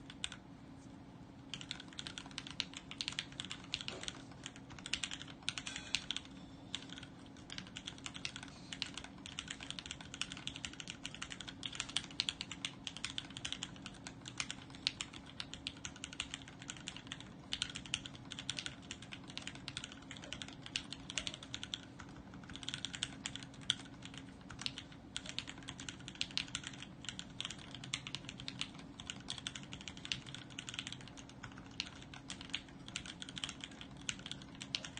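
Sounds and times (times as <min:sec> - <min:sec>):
mechanical keyboard typing: 0:00.0 - 0:00.4, 0:01.5 - 0:34.9
faint steady hum: 0:00.0 - 0:34.9.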